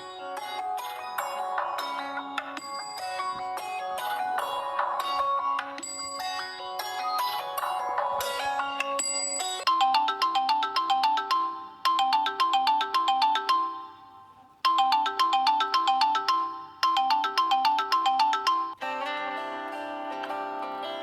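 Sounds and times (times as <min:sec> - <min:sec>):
different ringtone: 0:00.0 - 0:18.8
ringtone melody of bright notes: 0:00.0 - 0:19.5.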